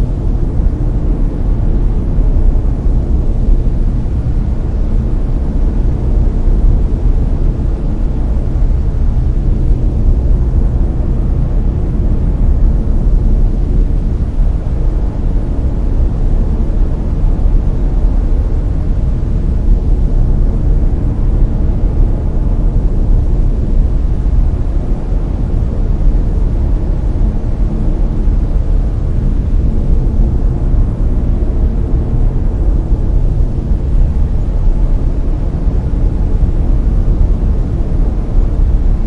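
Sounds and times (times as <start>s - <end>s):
brown noise rumbling hiss: 0.0s - 39.0s.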